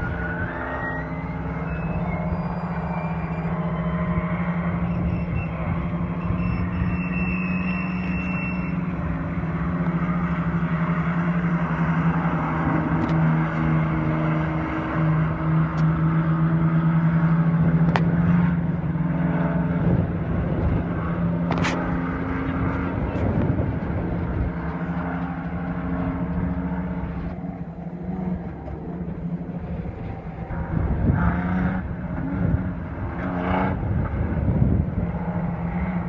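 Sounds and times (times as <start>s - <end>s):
race truck engines droning: 0.0s - 36.0s.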